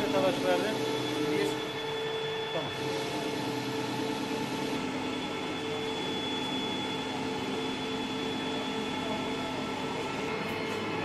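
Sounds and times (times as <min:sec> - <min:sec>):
metal lathe humming: 0:00.0 - 0:11.0.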